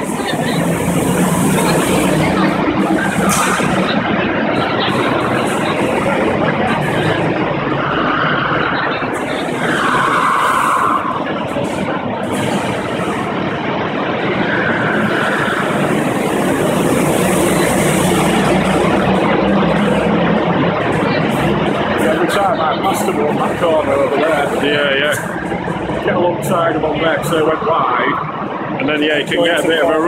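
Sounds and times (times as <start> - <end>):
go-kart engines running: 0.0 - 30.0.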